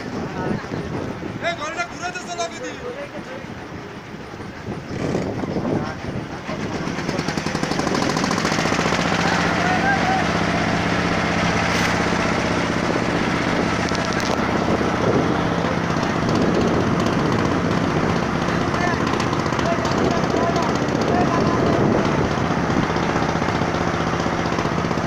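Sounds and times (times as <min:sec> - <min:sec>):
boat engine knocking: 0:03.7 - 0:25.0.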